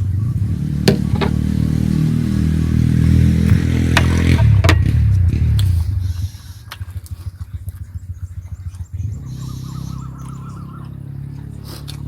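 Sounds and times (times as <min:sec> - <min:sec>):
motorcycle engine passing: 0:00.0 - 0:12.0.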